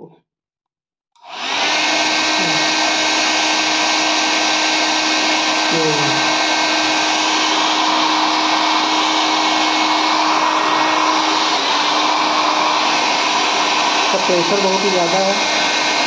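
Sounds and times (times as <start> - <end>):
hair dryer running: 1.2 - 16.0.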